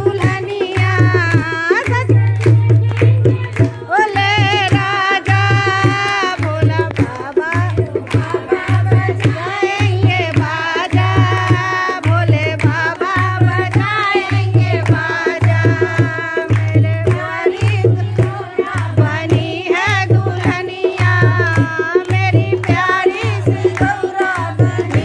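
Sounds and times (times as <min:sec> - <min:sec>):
hand claps: 0:00.0 - 0:25.0
hand drum beat: 0:00.0 - 0:25.0
women singing in unison: 0:00.0 - 0:25.0.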